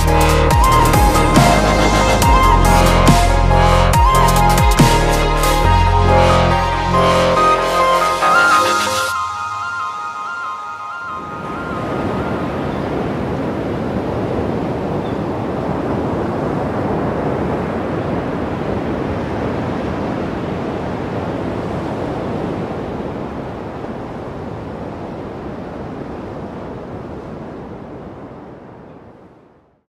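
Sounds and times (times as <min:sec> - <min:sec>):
waves breaking: 0:00.0 - 0:29.5.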